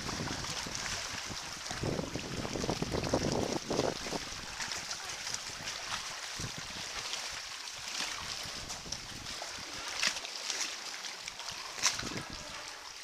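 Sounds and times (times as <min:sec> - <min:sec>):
water splashing against kayak: 0:00.0 - 0:13.0
waves: 0:00.0 - 0:13.0
wind: 0:00.0 - 0:13.0.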